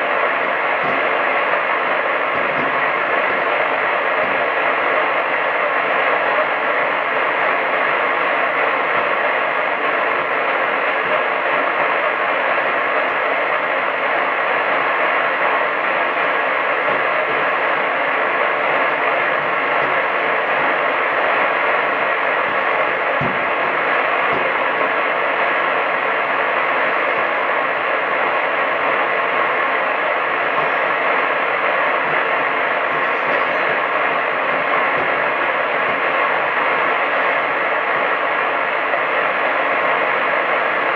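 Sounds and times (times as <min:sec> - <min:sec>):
radio static hiss: 0:00.0 - 0:40.9.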